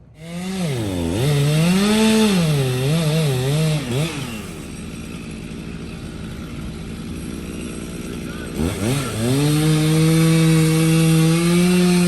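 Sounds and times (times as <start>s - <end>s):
stump grinder engine running: 0.0s - 12.0s.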